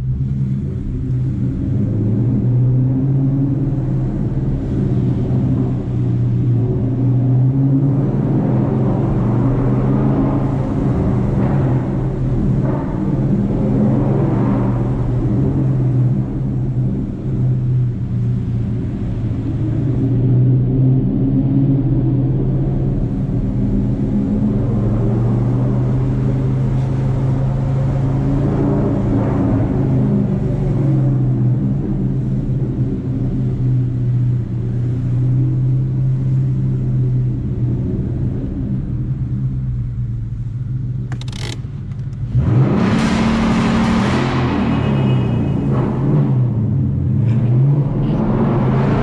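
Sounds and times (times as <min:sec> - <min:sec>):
car engine running: 0:00.0 - 0:45.1.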